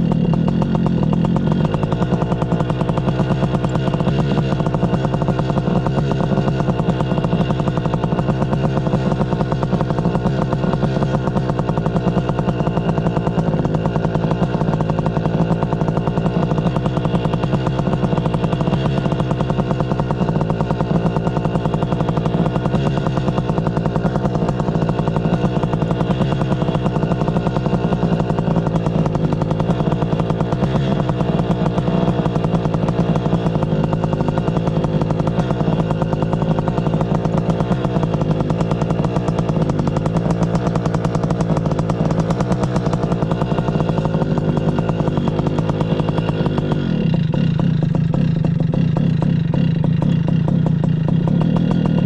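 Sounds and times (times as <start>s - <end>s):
paramotor engine and propeller: 0.0s - 52.0s.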